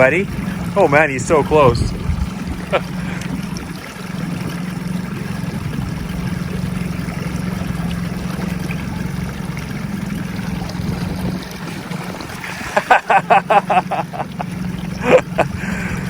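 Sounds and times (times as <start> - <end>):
boat motor running: 0.0 - 16.0
water against hull: 0.0 - 16.0.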